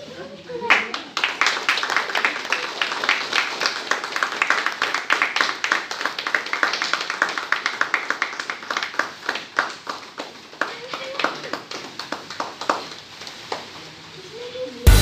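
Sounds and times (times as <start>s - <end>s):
group of people clapping: 0.5s - 13.8s.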